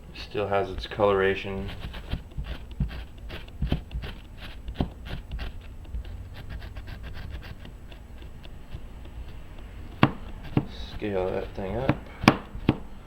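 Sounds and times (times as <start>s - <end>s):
knife scraping fish scales: 1.5s - 12.2s.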